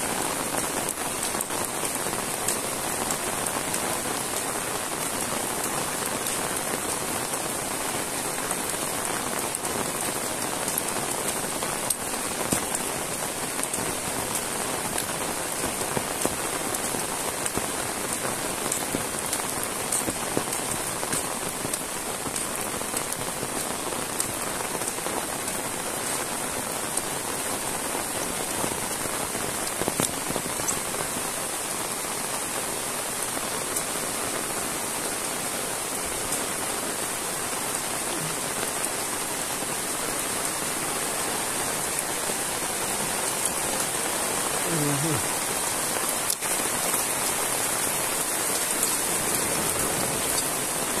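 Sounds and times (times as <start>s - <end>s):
heavy rain hissing: 0.0s - 51.0s.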